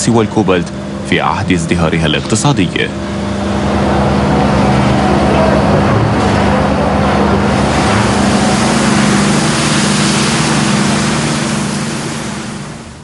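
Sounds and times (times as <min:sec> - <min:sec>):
loud dense rushing noise: 0:00.0 - 0:13.0
machinery engine running: 0:00.0 - 0:13.0.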